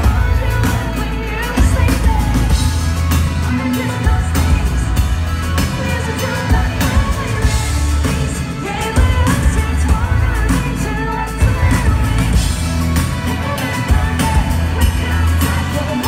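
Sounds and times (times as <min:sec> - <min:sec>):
live pop-rock band: 0:00.0 - 0:16.0
woman singing: 0:00.0 - 0:16.0.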